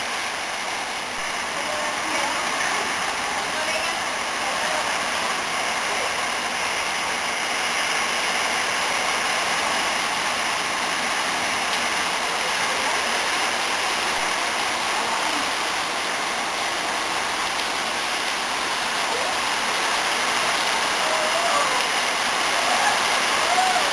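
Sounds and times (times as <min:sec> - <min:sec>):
heavy rain: 0:00.0 - 0:23.9
running water: 0:00.0 - 0:23.9.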